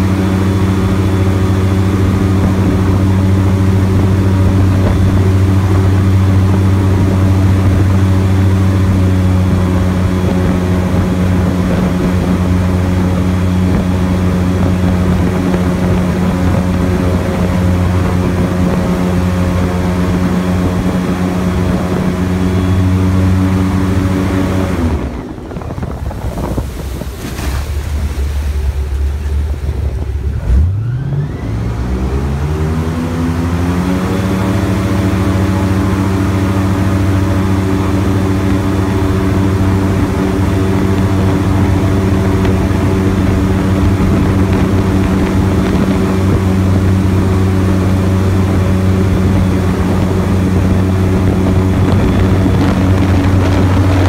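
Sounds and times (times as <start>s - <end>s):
airboat engine and propeller: 0.0s - 54.0s.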